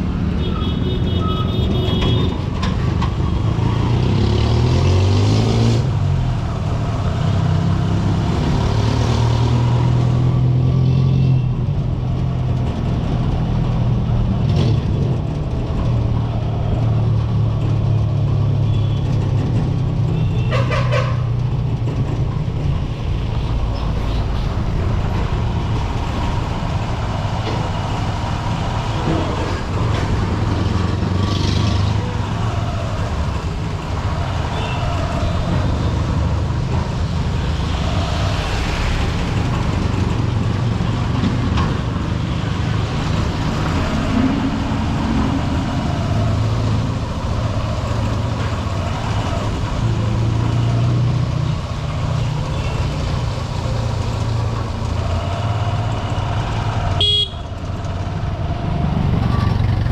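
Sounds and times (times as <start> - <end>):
street traffic noise: 0.0 - 59.9.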